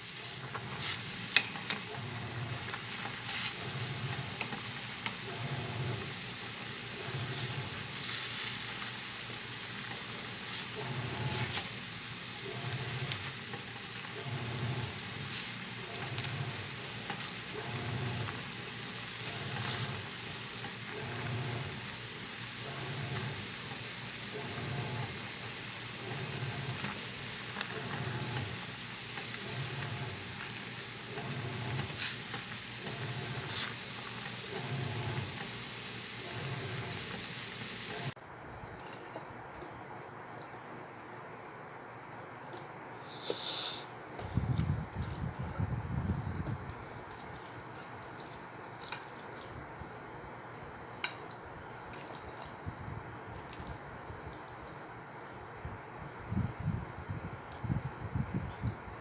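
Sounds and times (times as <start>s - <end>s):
water boiling in a pot: 0.0s - 38.2s, 43.0s - 59.0s.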